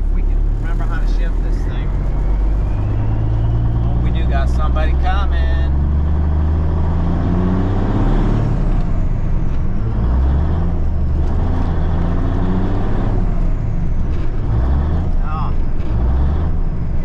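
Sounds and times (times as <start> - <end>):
truck diesel engine accelerating: 0.0 - 17.0.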